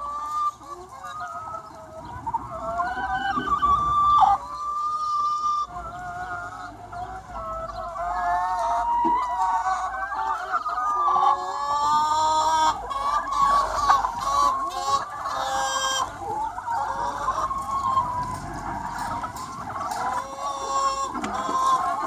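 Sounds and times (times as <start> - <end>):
chickens clucking and calling: 0.0 - 22.0
harsh hen calls: 0.0 - 22.0.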